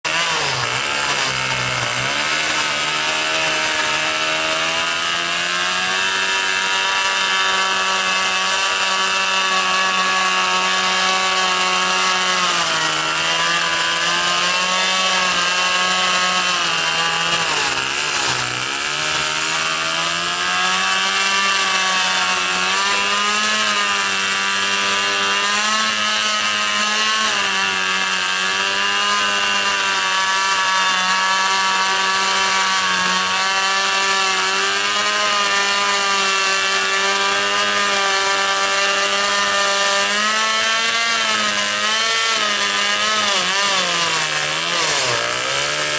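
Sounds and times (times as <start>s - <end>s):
two-stroke engine under load: 0.1s - 45.9s.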